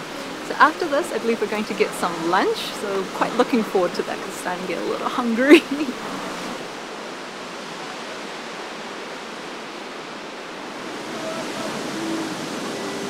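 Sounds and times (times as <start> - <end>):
large waterfall rushing: 0.0 - 13.0.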